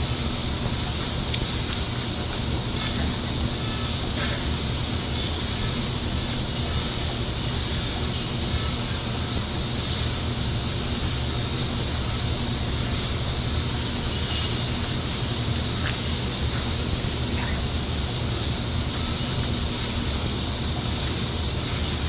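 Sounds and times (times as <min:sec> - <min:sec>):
high hiss: 0:00.0 - 0:22.0
low machine hum: 0:00.0 - 0:22.0.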